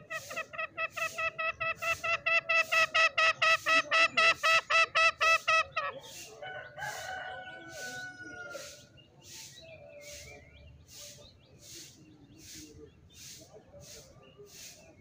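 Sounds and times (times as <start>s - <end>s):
junglefowl calling: 0.0s - 14.8s.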